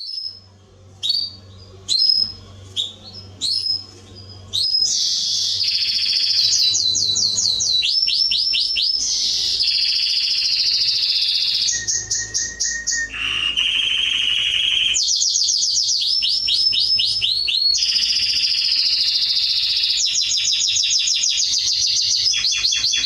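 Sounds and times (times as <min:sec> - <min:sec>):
canary singing trills: 0:00.0 - 0:23.0
faint low hum: 0:00.0 - 0:23.0.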